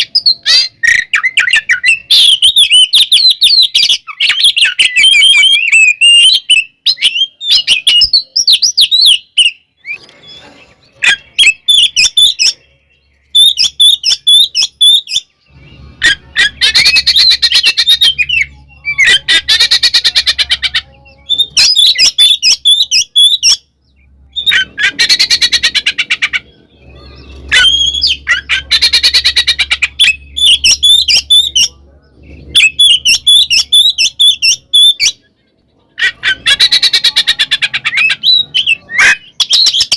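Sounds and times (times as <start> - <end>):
bird whistled song: 0.0 - 39.9.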